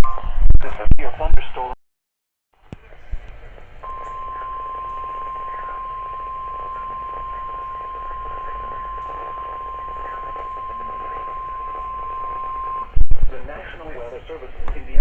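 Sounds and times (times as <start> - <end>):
radio hiss: 2.8 - 15.0.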